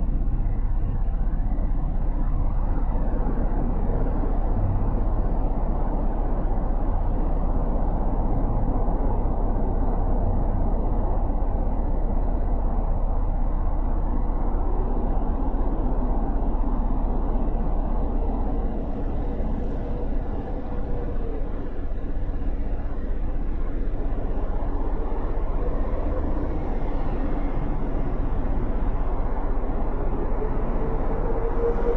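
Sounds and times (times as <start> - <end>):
wind and road noise: 0.0 - 31.9.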